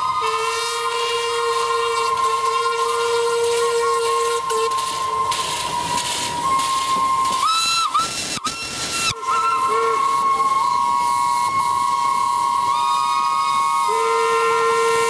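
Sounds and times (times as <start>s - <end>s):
higher whistle: 0.0s - 15.0s
hiss of escaping steam: 0.0s - 15.0s
steam locomotive whistles: 0.0s - 15.0s.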